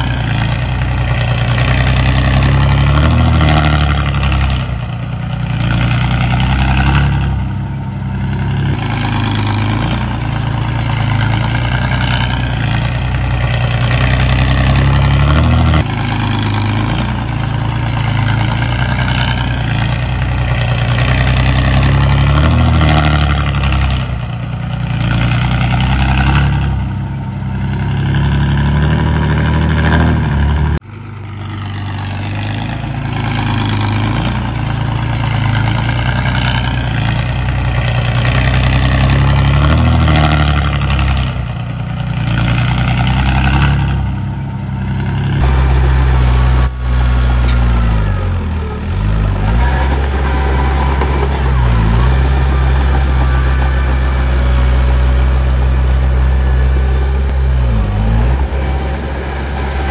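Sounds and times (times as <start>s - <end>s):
heavy diesel machinery engines: 0.0s - 59.9s.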